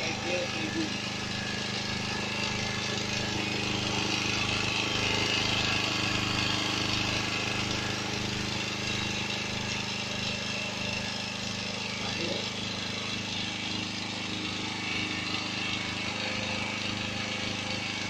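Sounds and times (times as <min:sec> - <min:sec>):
portable generator engine running: 0:00.0 - 0:18.0.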